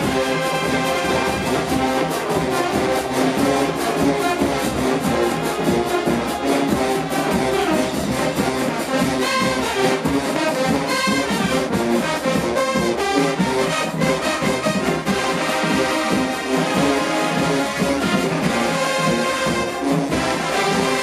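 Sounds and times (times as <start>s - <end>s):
brass section playing: 0.0s - 21.0s
drumline beat: 0.0s - 21.0s.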